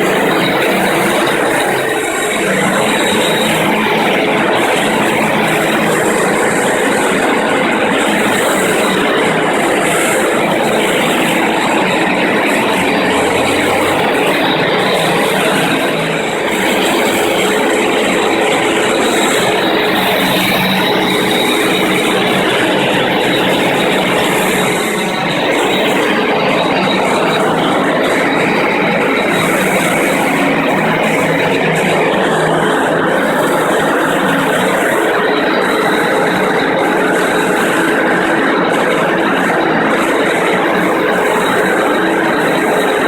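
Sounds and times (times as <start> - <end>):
concrete grinder whine and grinding: 0.0 - 43.0.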